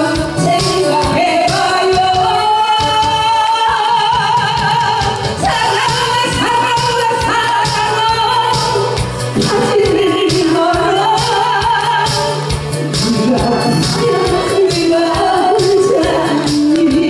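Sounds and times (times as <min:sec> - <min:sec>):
woman singing into a microphone: 0:00.0 - 0:12.5, 0:13.7 - 0:17.0
amplified backing track with beat: 0:00.0 - 0:17.0.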